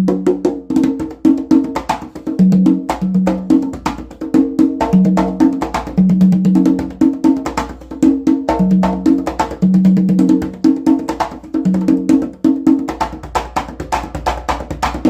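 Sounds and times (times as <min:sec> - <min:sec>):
congas played by hand: 0:00.0 - 0:15.0.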